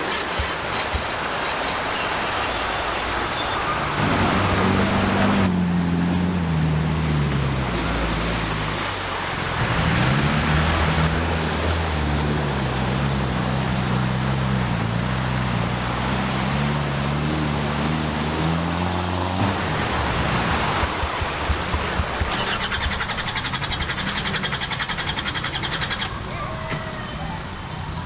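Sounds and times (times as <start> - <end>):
off-road vehicle engine running: 0.2 - 28.0.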